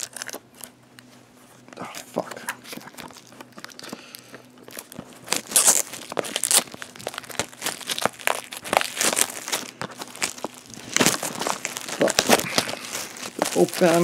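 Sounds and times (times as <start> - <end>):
plastic wrap crinkling: 0.0 - 1.1, 1.8 - 14.0.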